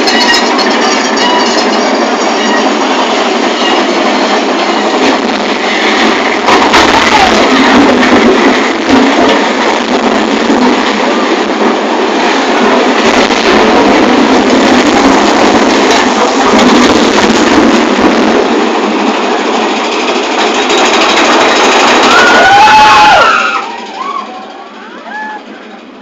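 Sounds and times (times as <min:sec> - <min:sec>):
roller coaster rumbling on track: 0:00.0 - 0:26.0.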